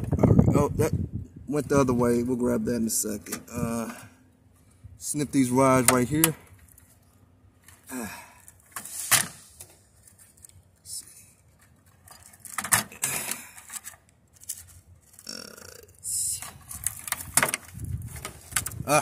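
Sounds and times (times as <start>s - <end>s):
wires rustling and scraping: 3.0s - 19.0s.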